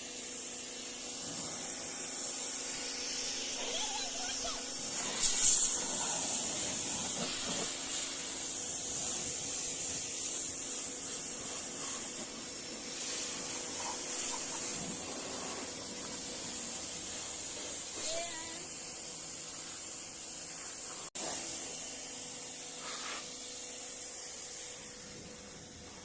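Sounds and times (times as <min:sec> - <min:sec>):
pressure washer spray hissing: 0:00.0 - 0:26.0.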